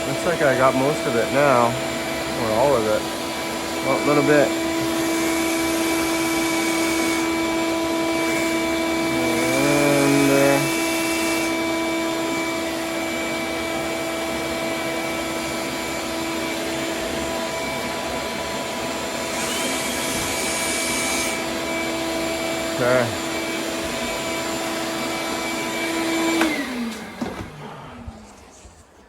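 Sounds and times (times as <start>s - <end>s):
vacuum cleaner whining: 0.0s - 29.0s.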